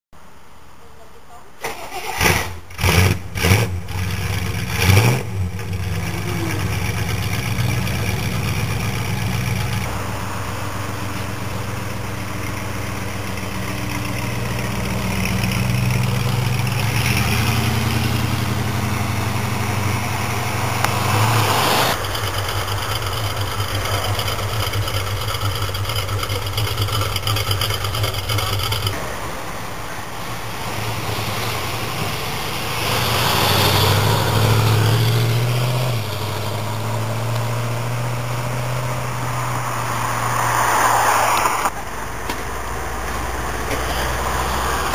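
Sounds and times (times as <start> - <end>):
car engine throttle blips: 1.7 - 40.2
car engine idling: 1.8 - 40.4, 41.0 - 44.9.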